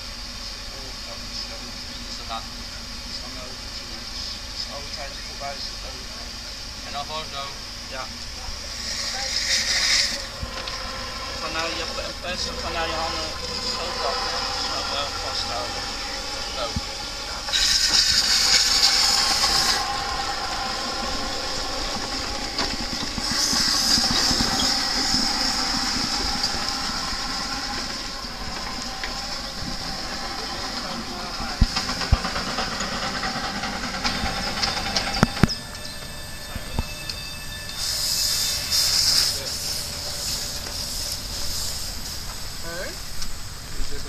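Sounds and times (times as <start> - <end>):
locomotive venting steam: 0.0 - 44.0
steam hissing in bursts: 0.0 - 44.0.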